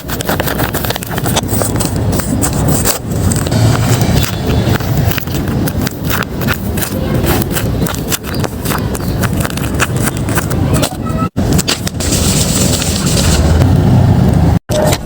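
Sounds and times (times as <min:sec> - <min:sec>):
paper bags crinkling and tearing: 0:00.0 - 0:13.7.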